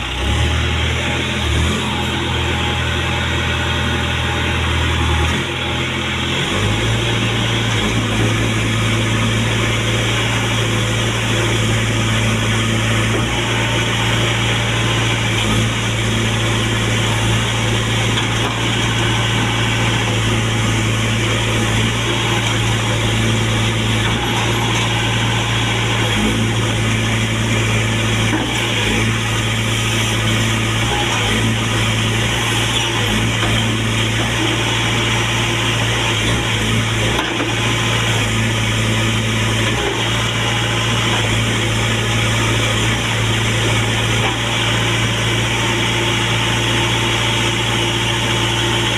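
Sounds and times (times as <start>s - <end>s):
diesel engine running steadily: 0.0s - 48.9s.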